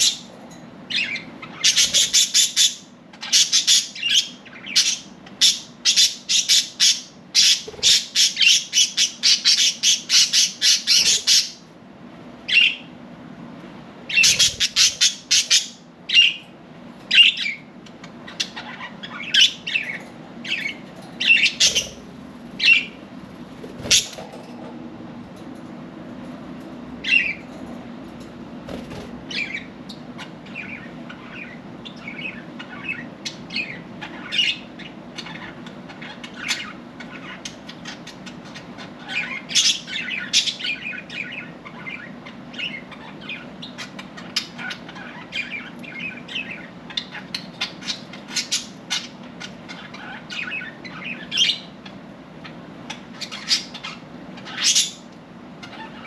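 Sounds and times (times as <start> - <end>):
steady low hum: 0.0 - 56.0
budgerigars chirping: 0.9 - 11.6, 14.1 - 16.4, 17.1 - 23.0, 23.8 - 24.2, 28.9 - 52.0, 52.9 - 56.0.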